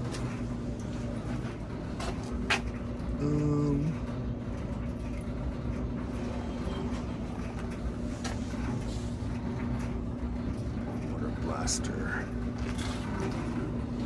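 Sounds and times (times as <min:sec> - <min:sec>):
low machine rumble and hum: 0:00.0 - 0:14.0.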